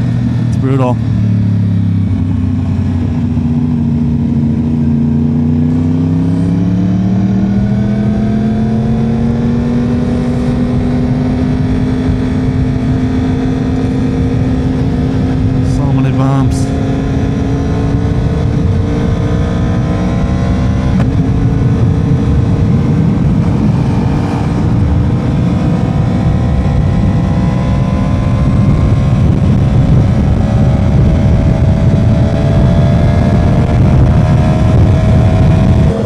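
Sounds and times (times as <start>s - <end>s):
motorcycle engine running: 0.0s - 36.0s
wind rushing on microphone: 2.0s - 36.0s.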